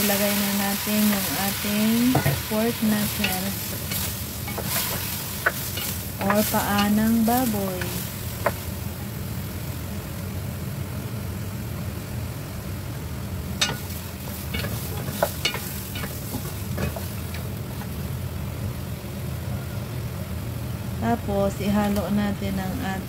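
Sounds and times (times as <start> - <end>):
meat frying sizzle: 0.0 - 18.8.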